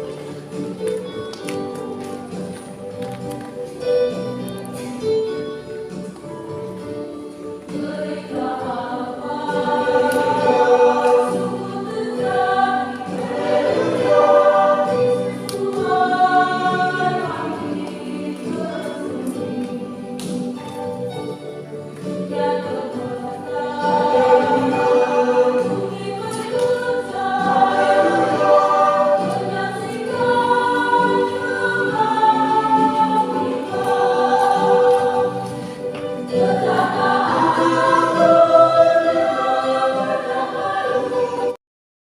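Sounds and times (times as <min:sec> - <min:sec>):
choir singing a hymn: 0:00.0 - 0:01.2, 0:05.0 - 0:41.6.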